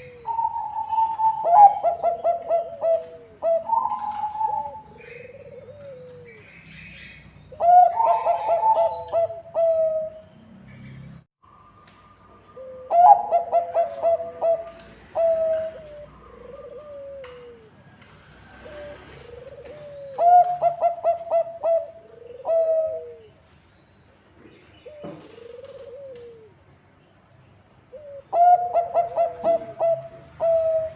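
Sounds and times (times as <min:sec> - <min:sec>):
doves cooing: 0:00.0 - 0:10.2, 0:12.5 - 0:23.4, 0:24.8 - 0:26.6, 0:27.9 - 0:30.9.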